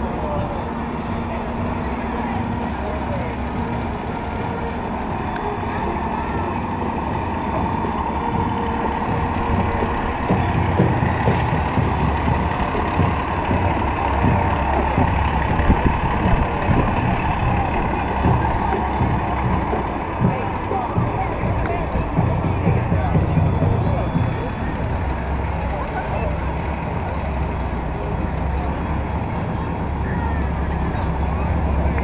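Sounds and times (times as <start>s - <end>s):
fire engine rolling past: 0.0s - 32.0s.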